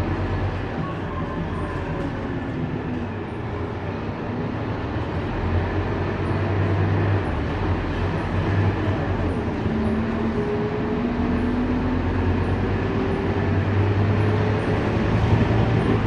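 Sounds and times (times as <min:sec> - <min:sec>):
diesel bus engine drone: 0:00.0 - 0:16.0
road noise: 0:00.0 - 0:16.0.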